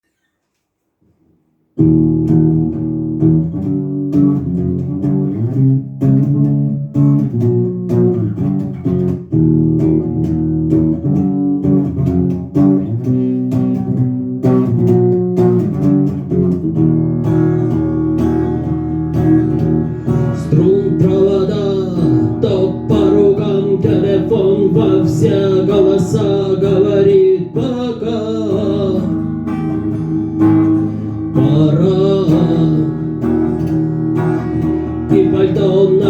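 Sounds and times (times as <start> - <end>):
bass guitar: 1.8 - 36.0
electric guitars: 1.8 - 36.0.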